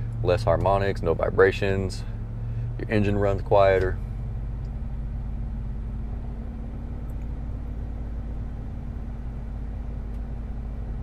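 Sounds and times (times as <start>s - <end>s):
pickup engine humming: 0.0s - 11.0s.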